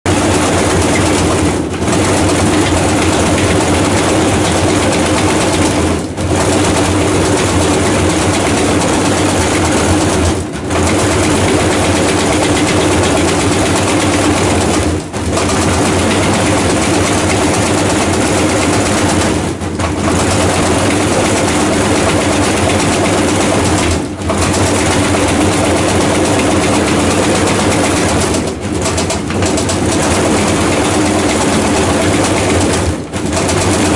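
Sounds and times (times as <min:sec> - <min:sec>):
washing machine running: 0:00.0 - 0:33.9.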